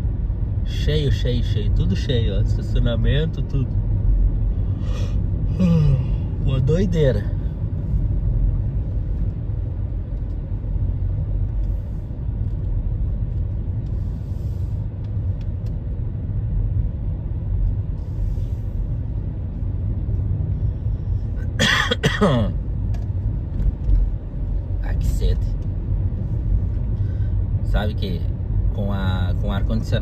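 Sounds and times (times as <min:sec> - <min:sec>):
car road rumble from inside: 0:00.0 - 0:30.0.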